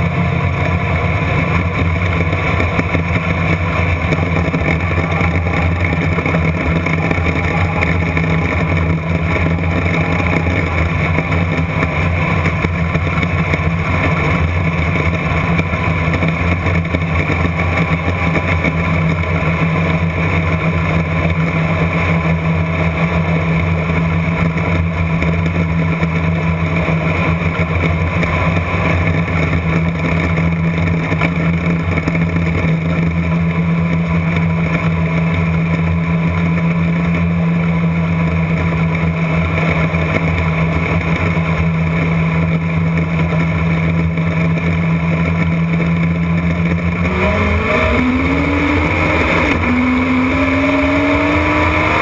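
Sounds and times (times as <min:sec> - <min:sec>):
race car engine running hard: 0:00.0 - 0:52.0.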